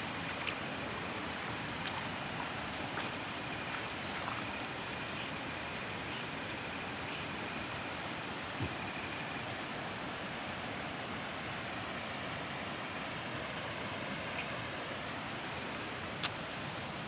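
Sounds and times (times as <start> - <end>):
pulsing insect chirp: 0.0 - 17.0
steady hiss: 0.0 - 17.0.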